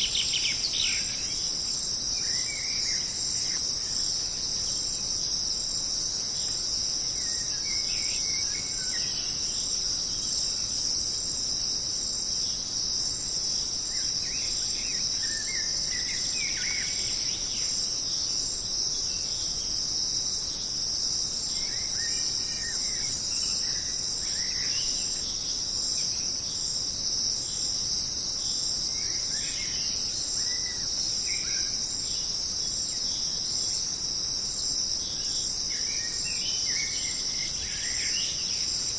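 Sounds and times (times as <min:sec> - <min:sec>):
insect chorus drone: 0:00.0 - 0:38.9.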